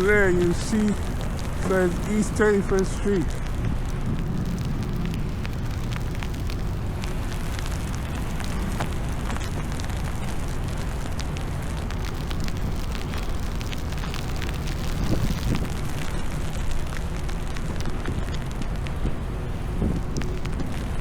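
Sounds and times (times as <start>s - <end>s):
light ticks: 0.0s - 21.0s
wind buffeting microphone: 0.0s - 21.0s.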